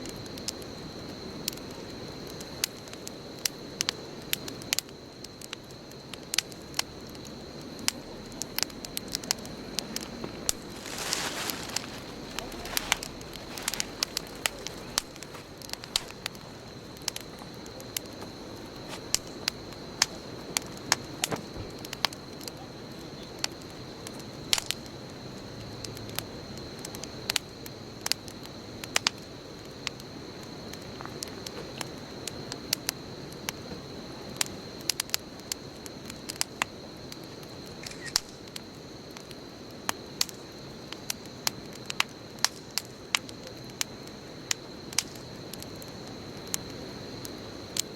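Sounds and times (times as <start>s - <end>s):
bonfire crackling and popping: 0.0s - 47.9s
low rustle of flames: 0.0s - 47.9s.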